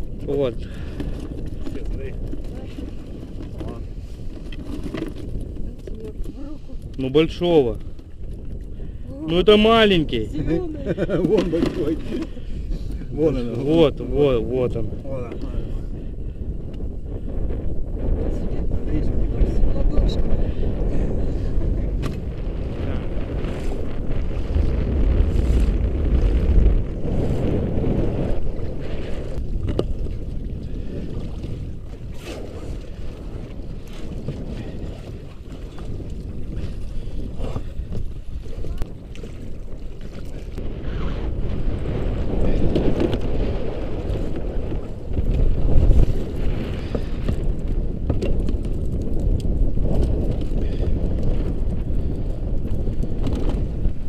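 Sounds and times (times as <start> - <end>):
water around a boat: 0.0 - 54.0
wind buffeting microphone: 0.0 - 54.0.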